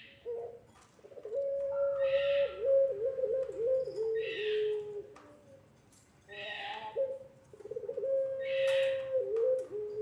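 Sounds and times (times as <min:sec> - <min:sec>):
dove cooing: 0:00.0 - 0:05.6, 0:06.3 - 0:10.0.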